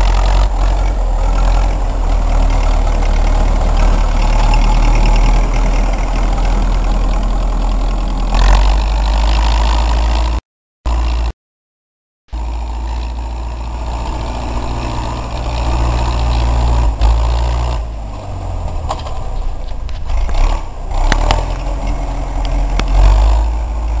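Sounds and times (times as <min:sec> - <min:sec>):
tractor diesel engine running: 0:00.0 - 0:11.3, 0:12.3 - 0:24.0.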